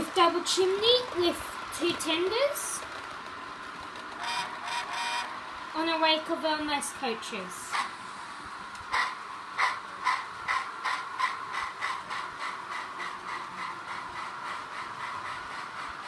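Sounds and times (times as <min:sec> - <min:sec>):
model train wheels clicking: 0:00.0 - 0:08.0, 0:08.7 - 0:16.0
steady running hum: 0:00.0 - 0:16.0.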